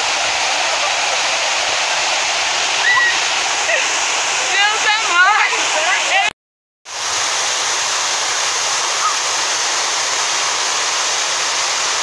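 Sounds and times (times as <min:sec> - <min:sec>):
waterfall rushing over rock: 0:00.0 - 0:06.3, 0:06.9 - 0:12.0.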